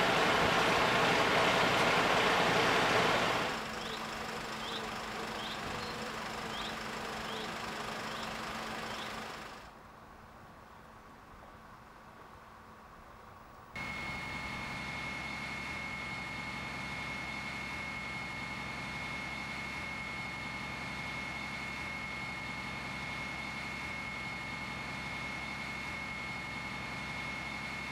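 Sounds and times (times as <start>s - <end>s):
fire engine running under load: 0.0s - 9.8s, 13.8s - 27.9s.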